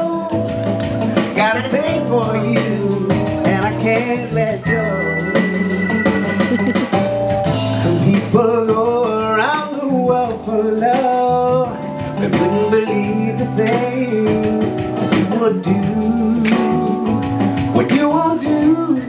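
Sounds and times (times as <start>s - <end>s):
man singing into microphone: 0.0s - 6.7s, 7.6s - 19.0s
backing music: 0.0s - 19.0s.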